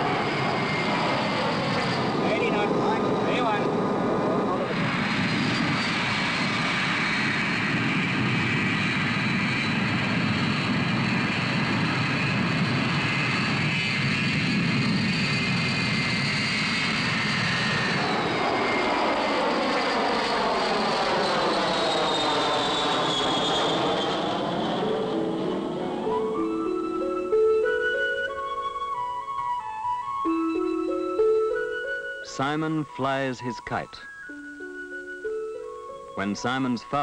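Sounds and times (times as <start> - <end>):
jet engines roaring with whine: 0.0 - 37.0.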